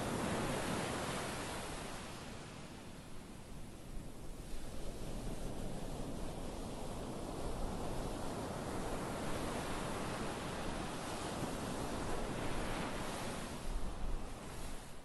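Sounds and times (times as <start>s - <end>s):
waves breaking on beach: 0.0s - 2.6s, 4.6s - 15.0s.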